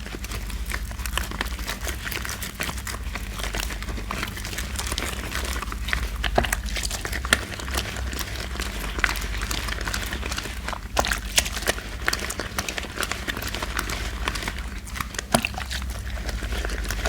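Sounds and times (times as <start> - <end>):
soap lather crackling: 0.0 - 17.0.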